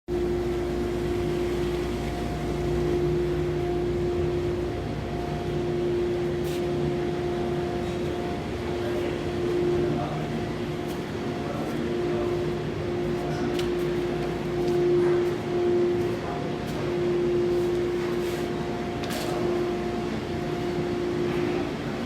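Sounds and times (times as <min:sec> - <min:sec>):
constant mechanical noise: 0:00.1 - 0:22.0.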